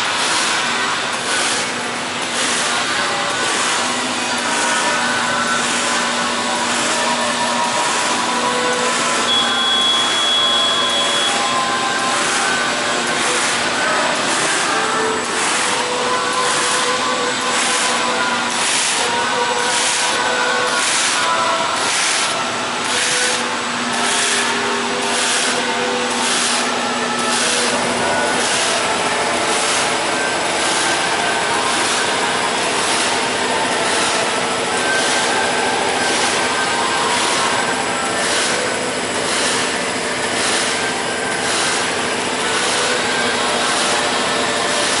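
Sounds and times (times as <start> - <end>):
cutting machine whine: 0.0 - 45.0
rhythmic hiss bursts: 0.0 - 45.0.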